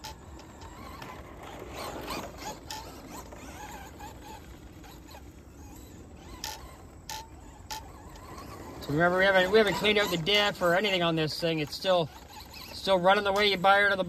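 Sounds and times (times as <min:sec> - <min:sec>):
rc car drivetrain whirring: 0:00.0 - 0:14.0.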